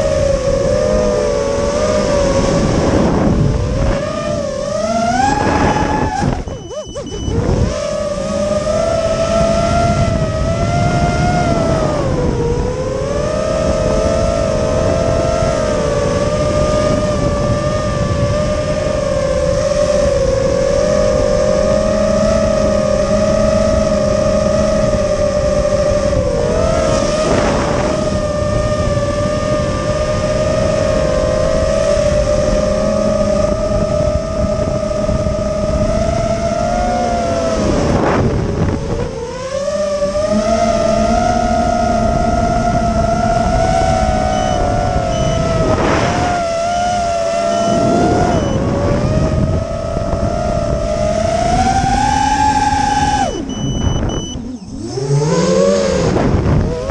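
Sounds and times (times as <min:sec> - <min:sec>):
drone motors whining: 0:00.0 - 0:56.9
wind noise on microphone: 0:00.0 - 0:56.9.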